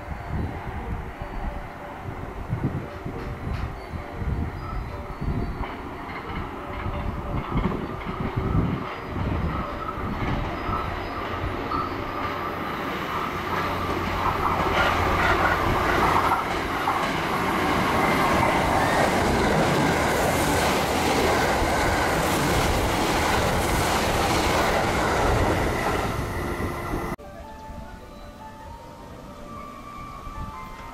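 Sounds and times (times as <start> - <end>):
train passing at speed: 0.0 - 27.2.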